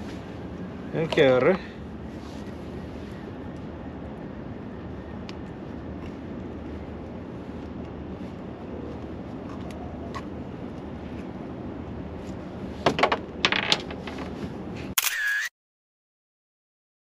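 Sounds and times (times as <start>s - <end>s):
wind: 0.0s - 15.5s.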